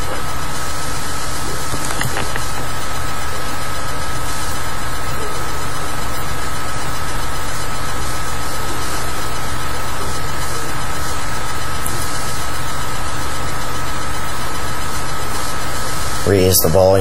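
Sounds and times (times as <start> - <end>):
high whine: 0.0 - 17.0
loud steady hiss: 0.0 - 17.0.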